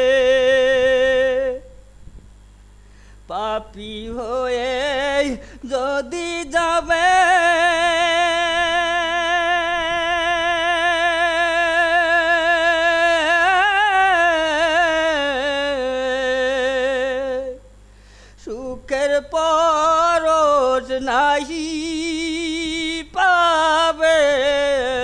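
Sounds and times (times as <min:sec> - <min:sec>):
man singing devotional song: 0:00.0 - 0:01.9, 0:03.2 - 0:25.0.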